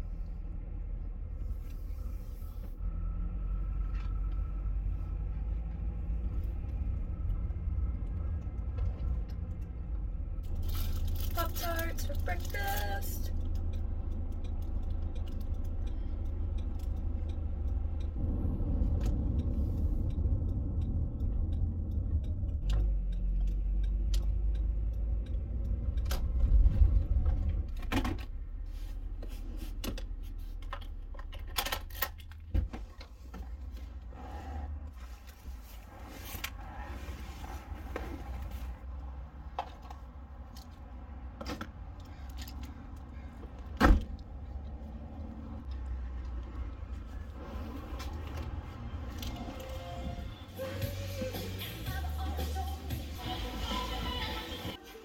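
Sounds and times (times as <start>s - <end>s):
car engine rumble: 0.0s - 54.8s
road noise: 0.0s - 55.0s.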